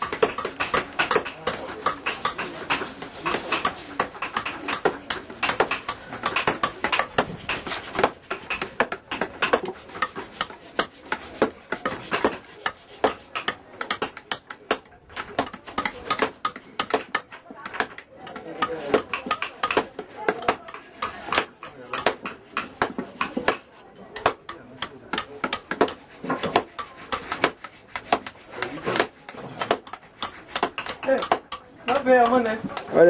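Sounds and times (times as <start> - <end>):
carving tools chopping wood: 0.0 - 33.0.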